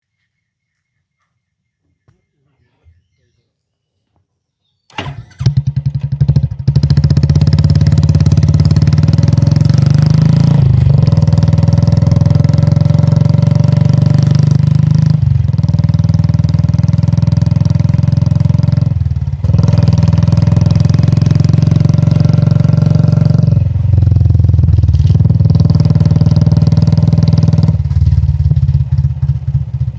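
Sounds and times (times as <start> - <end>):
motorcycle engine running: 5.0 - 29.9.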